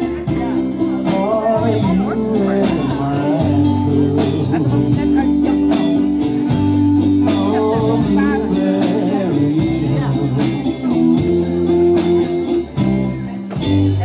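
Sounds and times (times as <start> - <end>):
bass notes: 0.0 - 14.0
guitar: 0.0 - 14.0
steady drum beat: 0.0 - 14.0.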